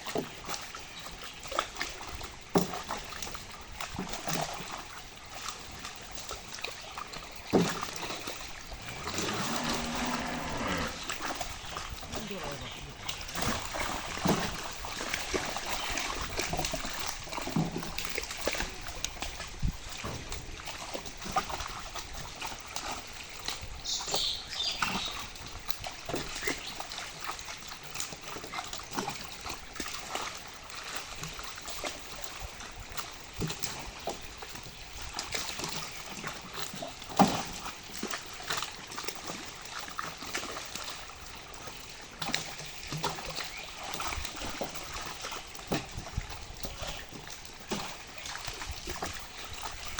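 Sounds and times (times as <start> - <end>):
water splashing and sloshing: 0.0 - 49.9.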